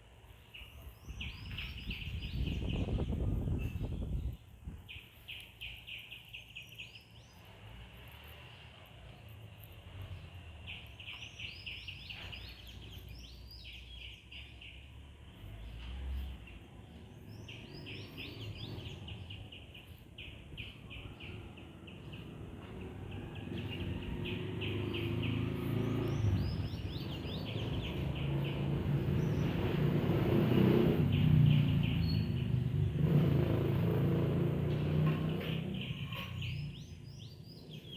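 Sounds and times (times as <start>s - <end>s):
bird chirping: 0.3s - 7.6s, 8.5s - 15.0s, 15.6s - 33.6s, 34.8s - 37.9s.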